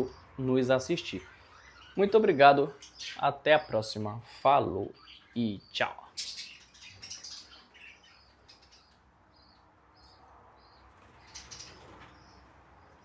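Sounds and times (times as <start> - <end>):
budgerigars chirping: 0.0 - 12.5.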